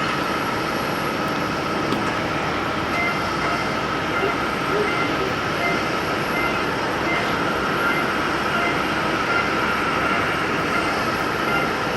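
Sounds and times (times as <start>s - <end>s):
high engine whine: 0.0s - 11.9s
jet engines roaring: 0.0s - 11.9s.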